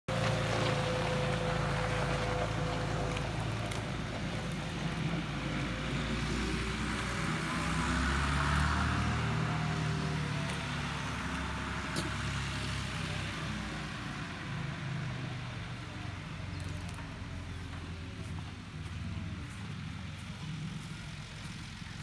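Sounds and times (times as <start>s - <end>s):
tractor diesel engine running: 0.1s - 22.0s.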